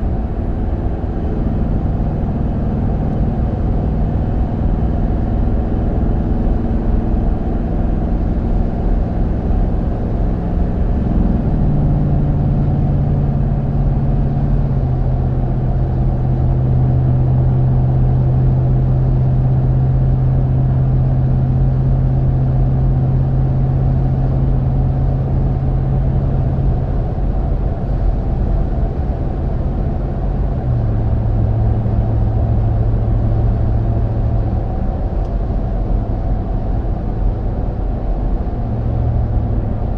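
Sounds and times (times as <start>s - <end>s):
low hum dropping in pitch: 0.0s - 19.8s, 22.8s - 36.6s
tire and drivetrain rumble: 0.0s - 39.9s.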